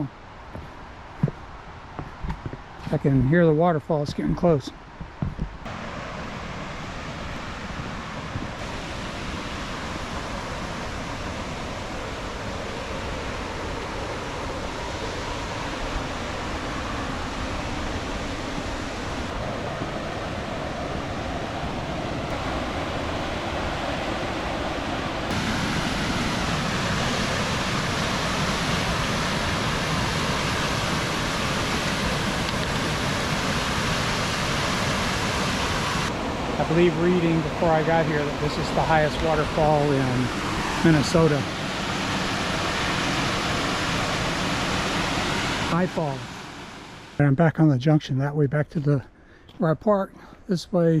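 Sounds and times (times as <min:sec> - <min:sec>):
roar of waterfall: 0:05.6 - 0:47.2.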